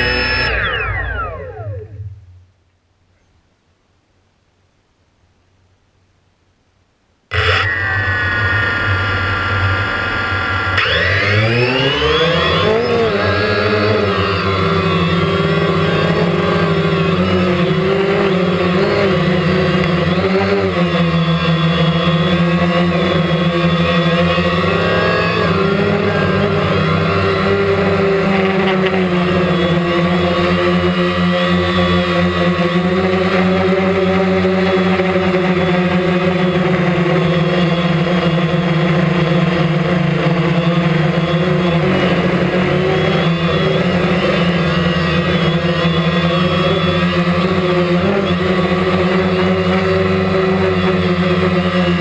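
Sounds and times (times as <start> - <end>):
drone motors whining: 0.0 - 2.5, 7.3 - 52.0.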